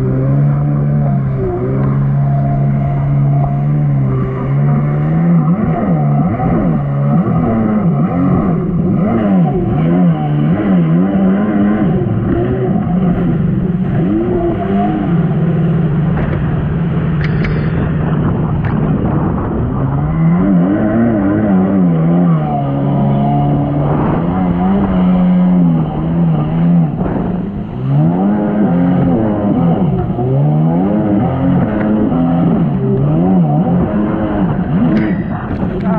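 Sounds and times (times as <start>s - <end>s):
jet ski engine running: 0.0s - 35.9s.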